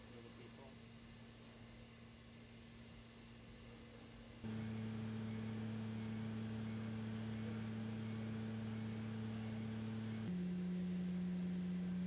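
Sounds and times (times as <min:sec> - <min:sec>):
low hum of pure tones: 0:00.0 - 0:12.0.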